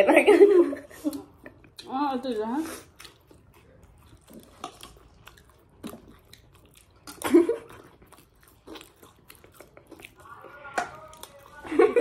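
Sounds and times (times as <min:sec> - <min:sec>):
chewing with small crunches: 0:00.9 - 0:12.0.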